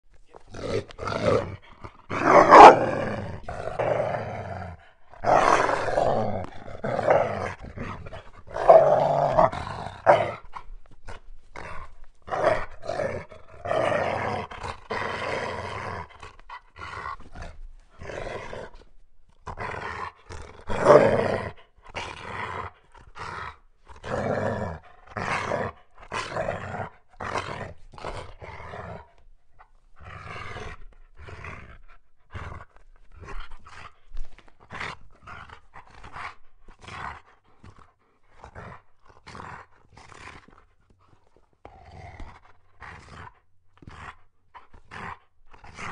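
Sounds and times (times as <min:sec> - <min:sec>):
wolf growling and snarling: 0:00.4 - 0:45.9.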